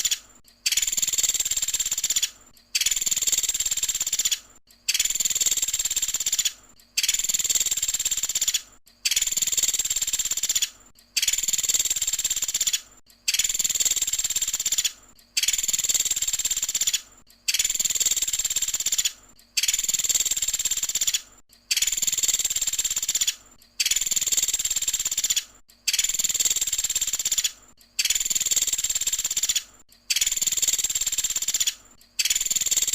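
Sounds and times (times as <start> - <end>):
woodpecker rapid trilling call: 0.0 - 32.9.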